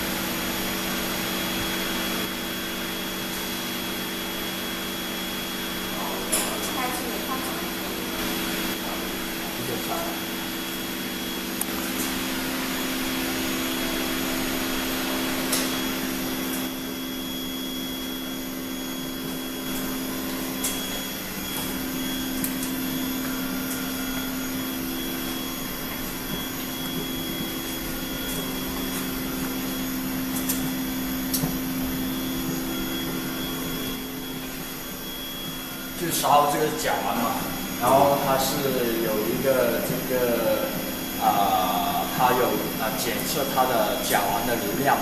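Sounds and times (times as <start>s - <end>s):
exhaust blower whirring: 0.0s - 45.0s.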